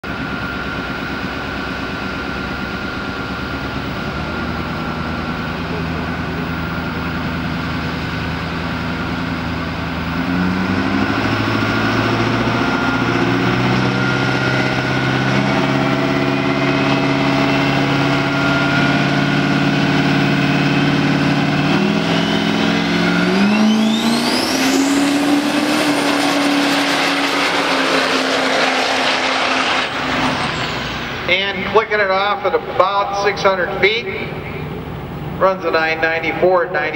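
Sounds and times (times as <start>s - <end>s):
diesel pickup engine revving: 0.0s - 36.8s
turbo whine: 0.0s - 36.9s.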